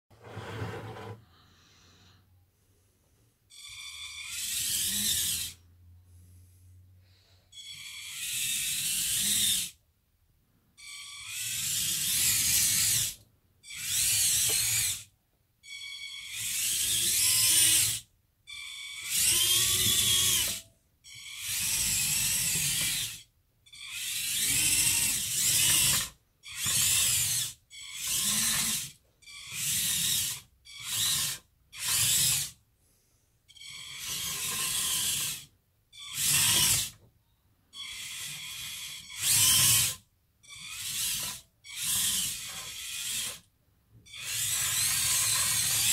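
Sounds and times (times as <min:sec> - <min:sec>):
small electric motors whining: 0:03.5 - 0:05.6, 0:07.5 - 0:09.8, 0:10.8 - 0:32.6, 0:33.5 - 0:37.0, 0:37.7 - 0:45.9.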